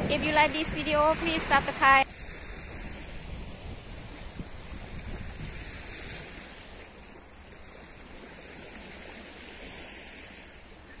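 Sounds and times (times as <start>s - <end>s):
small waves washing onto sand: 0.0s - 11.0s
wind rumbling on microphone: 0.0s - 11.0s.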